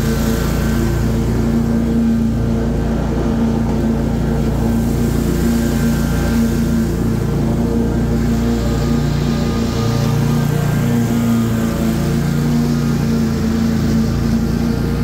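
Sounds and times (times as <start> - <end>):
lawn mower droning: 0.0 - 15.0.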